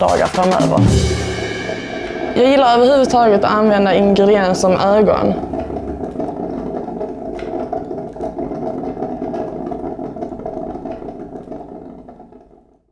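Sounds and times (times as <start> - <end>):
mechanical whirring hum: 0.0 - 12.9.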